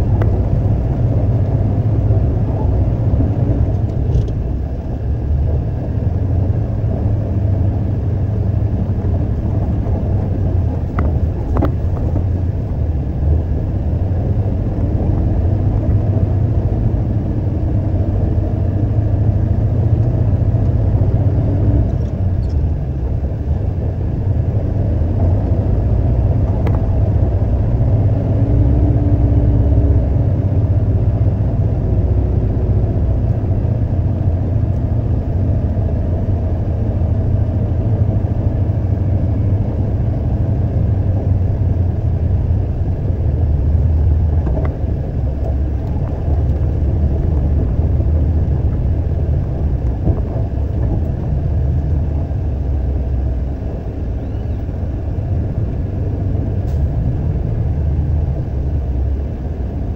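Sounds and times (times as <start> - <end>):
truck engine low rumble: 0.0 - 59.9.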